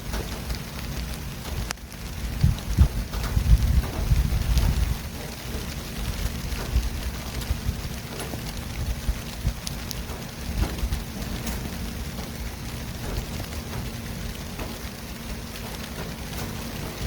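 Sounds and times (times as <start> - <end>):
continuous hiss: 0.0 - 17.0
low rumble of traffic: 0.0 - 17.0.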